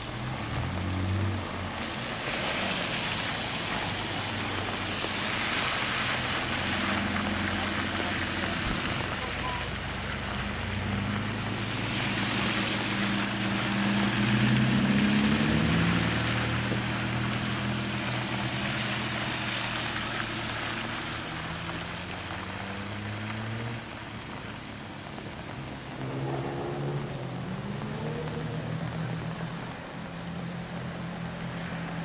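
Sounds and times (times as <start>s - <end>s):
car engine pulling away: 0.0s - 32.0s
second car engine: 0.0s - 32.0s
tyres hissing on wet road: 0.0s - 32.0s.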